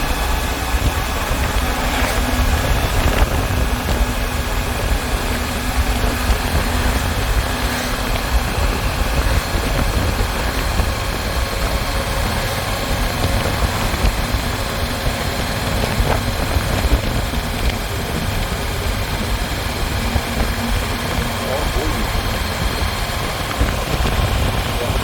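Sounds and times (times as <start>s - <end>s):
motorcycle engine rumble: 0.0s - 25.0s
wind rushing noise: 0.0s - 25.0s.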